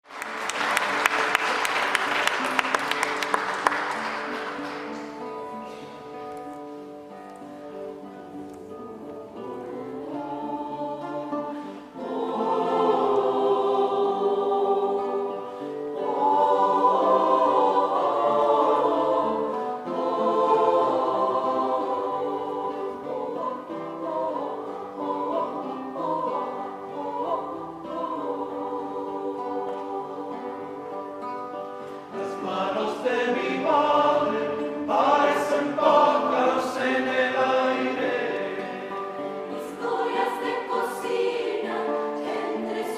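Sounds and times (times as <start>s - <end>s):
choir singing: 0.0s - 42.9s.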